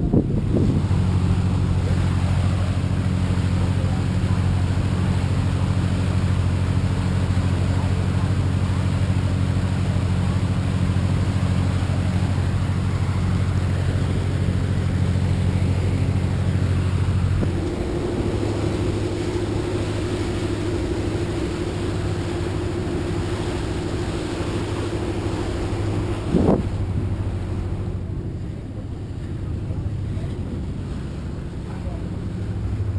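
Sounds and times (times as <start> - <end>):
boat engine drone: 0.0 - 32.9.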